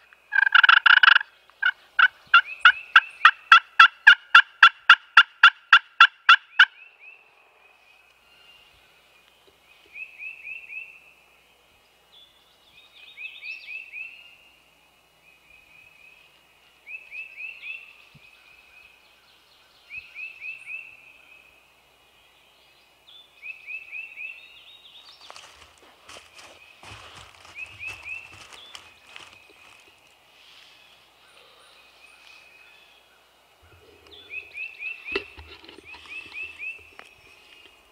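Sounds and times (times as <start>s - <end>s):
bird singing: 0.0s - 4.6s, 6.1s - 30.0s, 30.6s - 37.9s
rustle: 0.0s - 37.9s.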